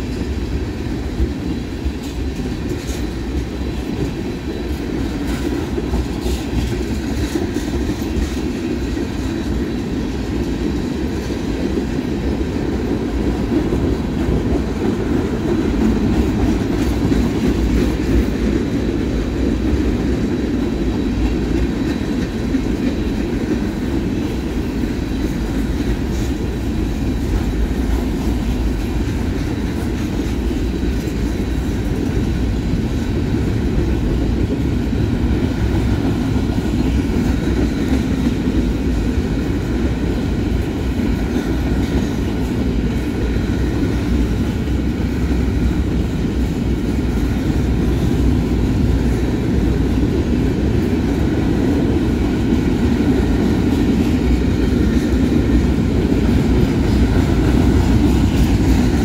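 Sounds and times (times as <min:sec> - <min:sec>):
train wheels running on rails: 0:00.0 - 0:59.0.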